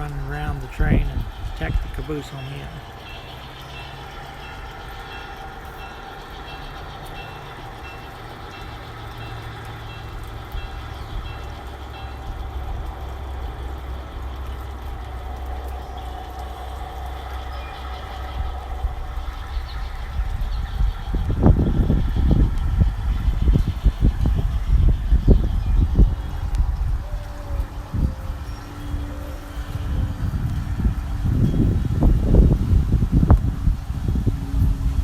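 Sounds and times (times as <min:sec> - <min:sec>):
model train motor hum: 0:00.0 - 0:35.0
wheel rumble on track: 0:00.0 - 0:35.0.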